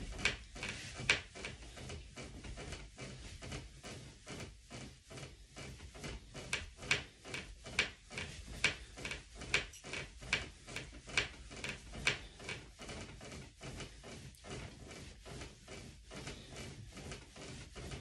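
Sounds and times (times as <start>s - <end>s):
mattress bedding noise: 0.0s - 18.0s.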